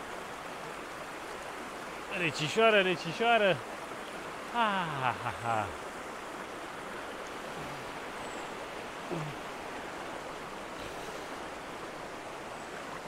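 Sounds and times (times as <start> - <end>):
river water rushing around legs: 0.0 - 13.0.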